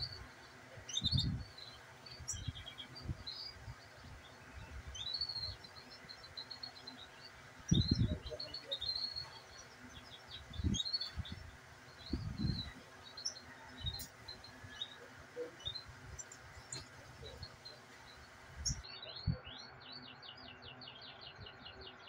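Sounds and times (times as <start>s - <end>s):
canaries chirping: 0.0s - 22.0s.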